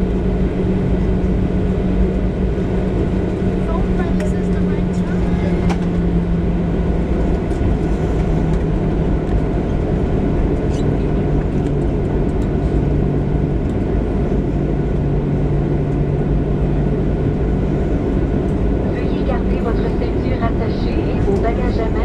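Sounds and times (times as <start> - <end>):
jet engines rumbling while taxiing: 0.0 - 22.0
low hum: 0.0 - 22.0.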